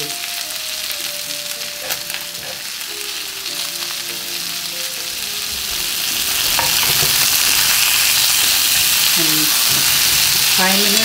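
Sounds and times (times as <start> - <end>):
chicken sizzling in a skillet: 0.0 - 11.0.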